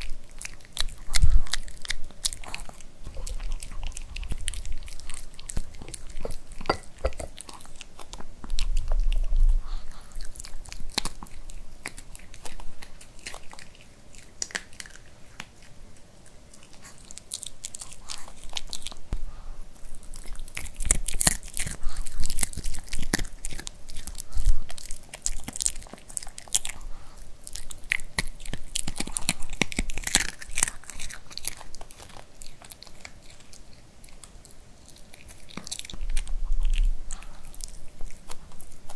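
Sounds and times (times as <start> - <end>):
dog crunching dry kibble: 0.0 - 38.9.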